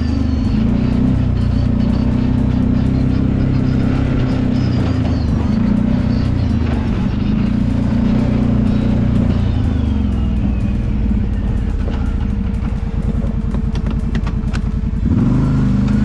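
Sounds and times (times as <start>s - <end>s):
atv engine running: 0.0s - 16.0s
background music: 0.0s - 16.0s.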